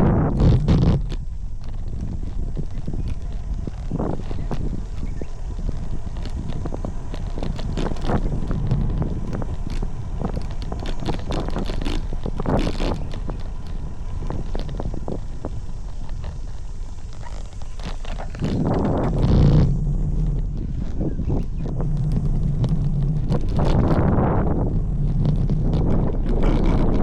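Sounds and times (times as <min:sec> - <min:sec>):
bike clicks and rattles: 0:00.0 - 0:27.0
wind buffeting microphone: 0:00.0 - 0:27.0.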